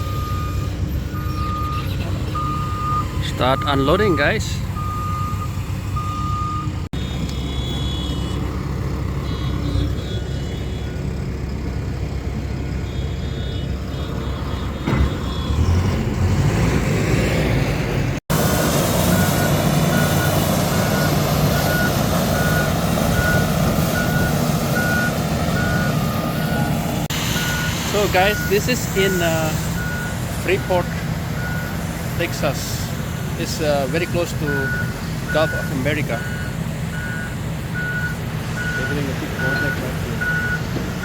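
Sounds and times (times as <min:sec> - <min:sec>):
reversing alarm beeping: 0:00.0 - 0:08.6, 0:12.6 - 0:15.9, 0:18.6 - 0:32.6, 0:33.4 - 0:40.7
diesel engine running: 0:00.0 - 0:41.0.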